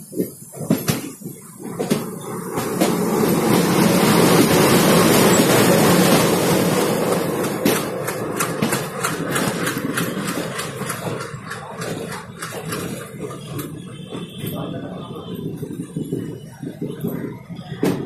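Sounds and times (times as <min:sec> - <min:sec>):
locomotive passing with rush: 0:00.0 - 0:17.8
train wheels clicking on rail joints: 0:00.0 - 0:18.0.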